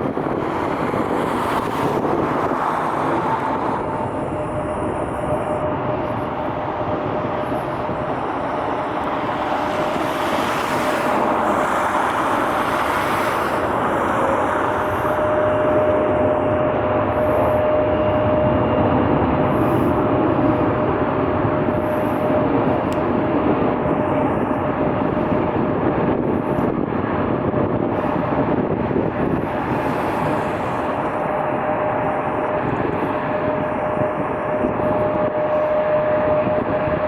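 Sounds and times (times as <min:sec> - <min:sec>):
jet engine roar: 0:00.0 - 0:37.0.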